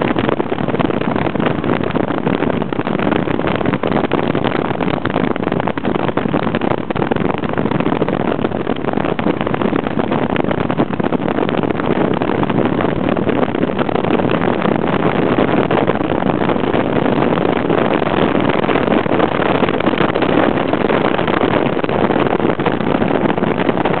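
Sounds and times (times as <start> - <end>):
moving vehicle running noise: 0.0 - 24.0
wind on microphone: 0.0 - 24.0.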